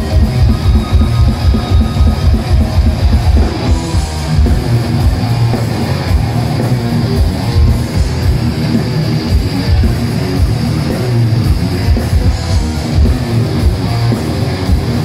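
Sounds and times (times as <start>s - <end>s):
bass guitar: 0.0s - 15.0s
distorted electric guitars: 0.0s - 15.0s
rapid drums: 0.0s - 15.0s.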